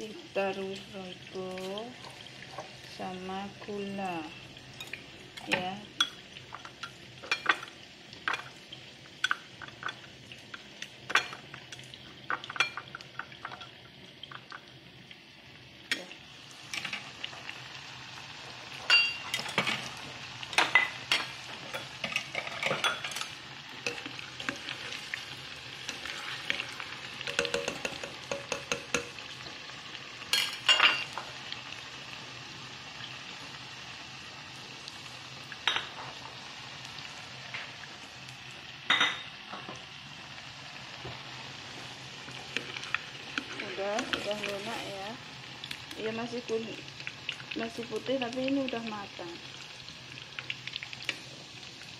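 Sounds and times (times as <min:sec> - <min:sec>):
deep-frying sizzle: 0:00.0 - 0:51.9.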